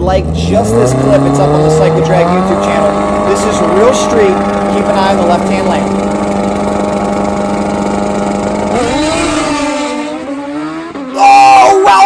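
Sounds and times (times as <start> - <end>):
motorcycle engine revving and accelerating: 0.0 - 11.9.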